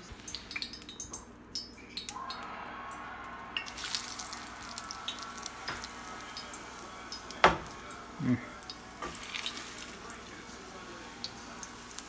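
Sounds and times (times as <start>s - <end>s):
oil crackling in a skillet: 0.0s - 2.4s, 3.6s - 12.0s.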